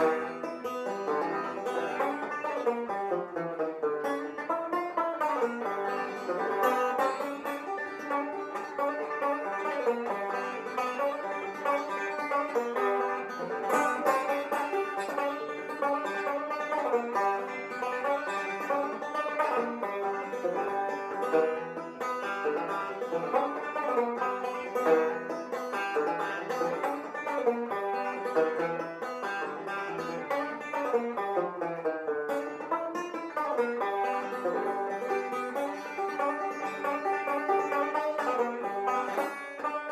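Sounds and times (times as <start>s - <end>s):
banjo plucking: 0.0s - 39.9s.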